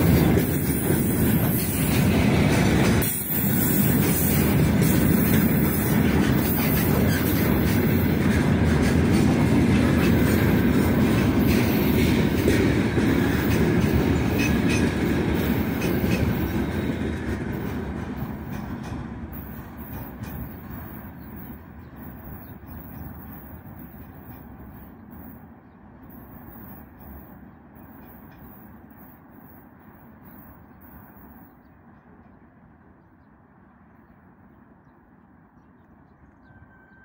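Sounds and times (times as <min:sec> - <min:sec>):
train clicks and knocks: 0:00.0 - 0:31.9
steel wheels rumbling on rails: 0:00.0 - 0:34.6.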